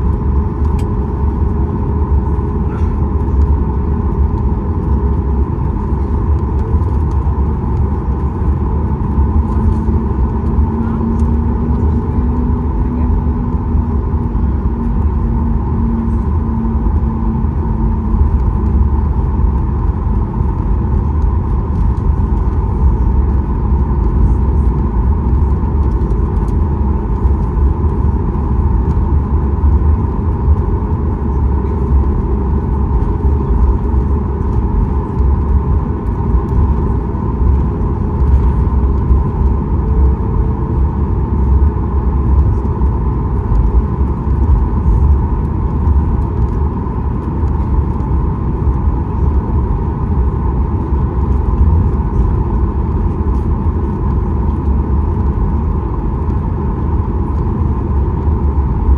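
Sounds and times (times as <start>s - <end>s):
aircraft cabin engine rumble: 0.0s - 58.9s.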